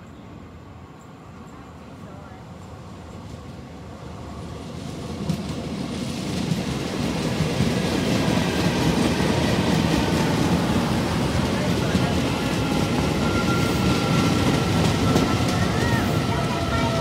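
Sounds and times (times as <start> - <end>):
train wheel and running noise: 0.0 - 17.0.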